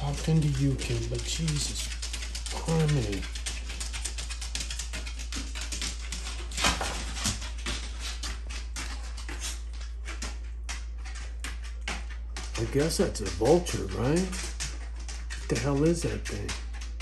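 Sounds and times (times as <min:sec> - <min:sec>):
fast irregular ticking: 0:00.0 - 0:17.0.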